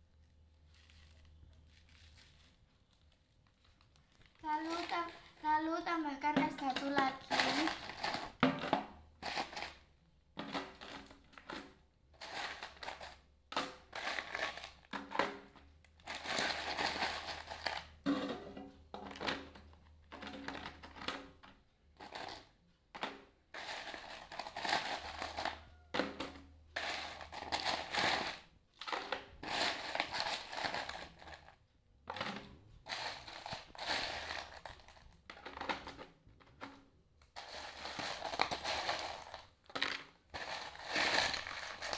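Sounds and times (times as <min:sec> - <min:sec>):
ice cubes clattering in bucket: 0:04.5 - 0:05.5, 0:06.2 - 0:09.8, 0:10.4 - 0:21.4, 0:22.0 - 0:36.8, 0:37.4 - 0:41.9.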